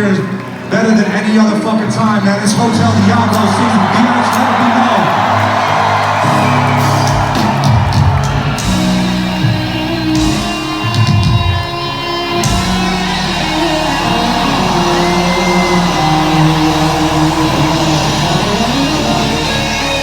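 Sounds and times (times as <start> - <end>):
amplified guitar held notes: 0.0 - 20.0
live rock band: 0.0 - 20.0.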